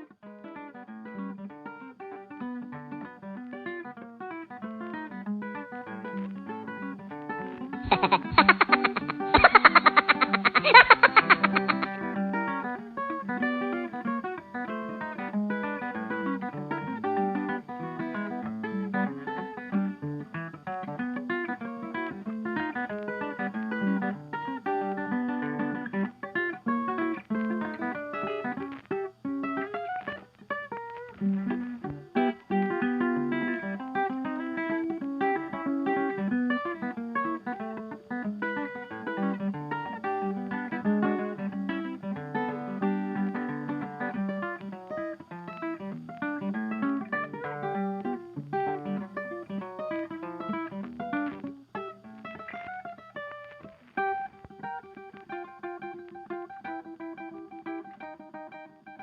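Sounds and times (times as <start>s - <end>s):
fast strummed guitar music: 0.0s - 59.0s.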